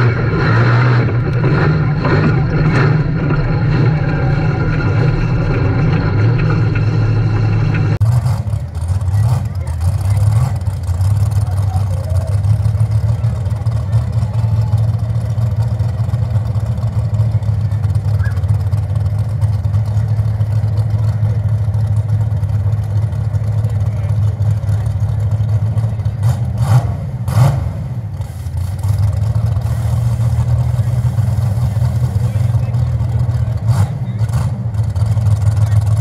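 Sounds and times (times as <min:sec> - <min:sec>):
large engine idling: 0:00.0 - 0:36.0.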